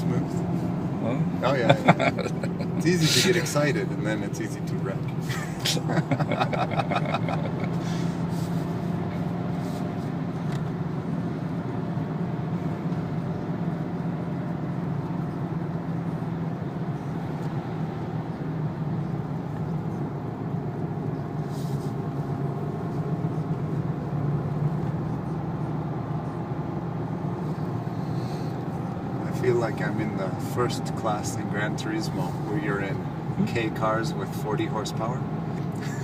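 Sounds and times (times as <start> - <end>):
diesel engine running: 0.0 - 36.0
tyre and road noise: 0.0 - 36.0.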